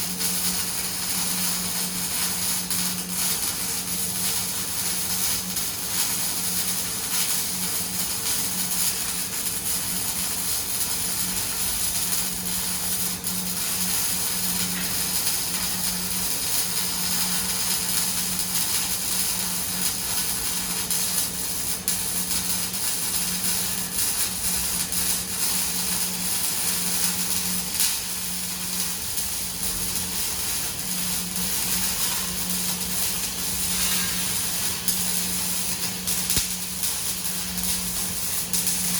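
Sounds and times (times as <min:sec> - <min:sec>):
welding arc hissing crackle: 0:00.0 - 0:38.9.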